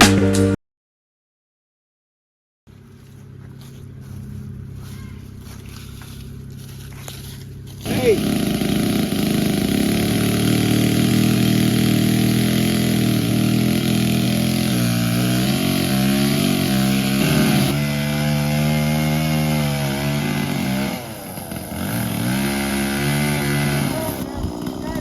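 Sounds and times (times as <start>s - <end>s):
small engine running: 2.7s - 25.0s.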